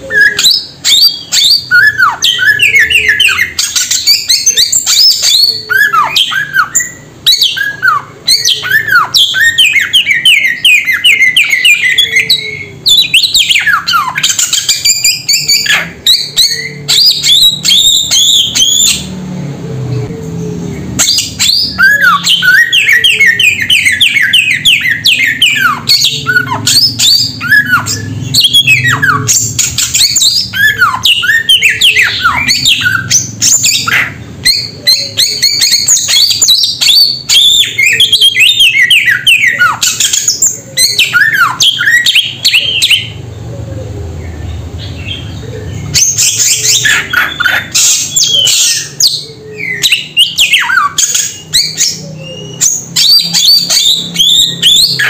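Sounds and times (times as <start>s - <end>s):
songbird chattering whistled song: 0.0s - 19.1s, 20.2s - 55.0s.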